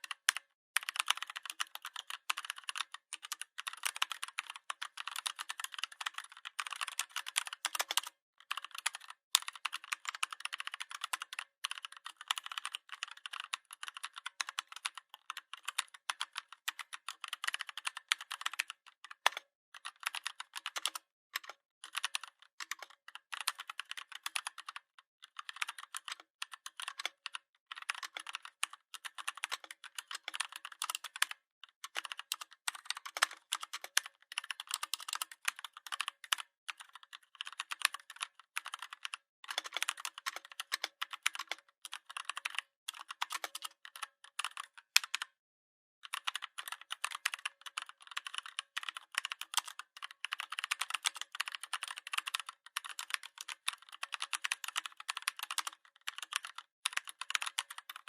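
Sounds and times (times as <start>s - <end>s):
typing on computer keyboard: 0.0s - 45.4s, 46.0s - 58.0s.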